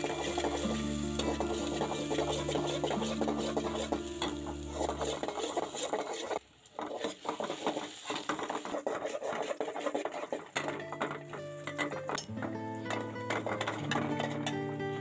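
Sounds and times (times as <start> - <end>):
metal spoon scraping a pot: 0.0 - 14.6
oil sizzling: 0.0 - 15.0.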